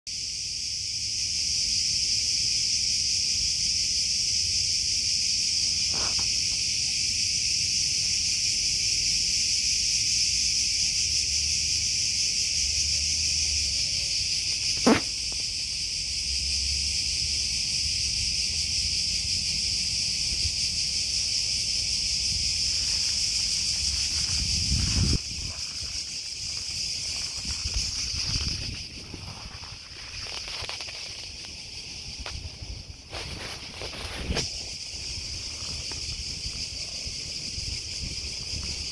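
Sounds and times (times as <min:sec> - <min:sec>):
cicadas singing: 0:00.1 - 0:38.9.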